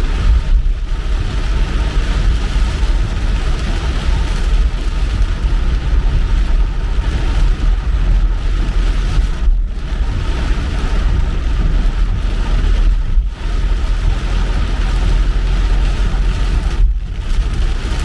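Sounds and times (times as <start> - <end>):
engine and tyres rumbling: 0.0 - 18.0.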